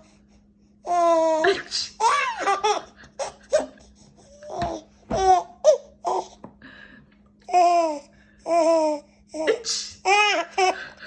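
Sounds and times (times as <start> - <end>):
baby laughing: 0.9 - 6.4, 7.5 - 11.0.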